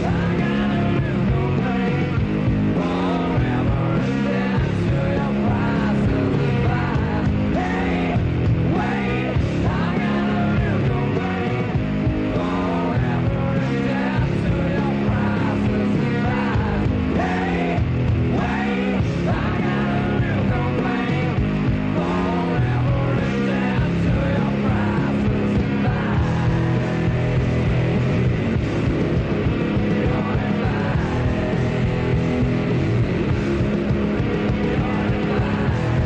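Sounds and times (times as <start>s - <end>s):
rock song with singer and band: 0.0s - 36.0s.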